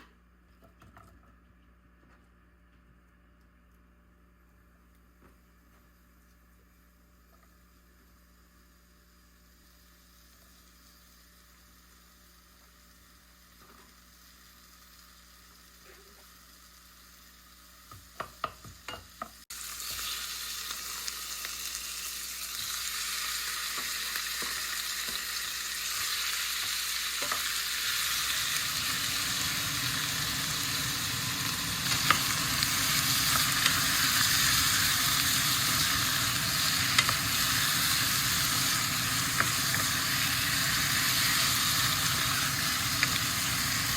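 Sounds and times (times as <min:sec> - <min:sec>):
food sizzling in a frying pan: 0:05.9 - 0:43.9.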